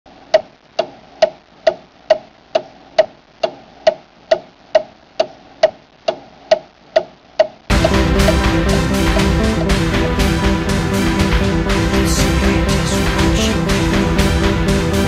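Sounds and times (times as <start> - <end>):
clock ticking: 0.3 - 14.8.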